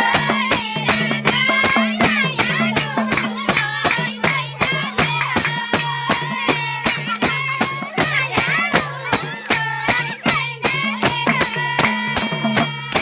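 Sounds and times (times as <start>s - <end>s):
jingling percussion: 0.0s - 13.0s
person singing folk song: 0.0s - 13.0s.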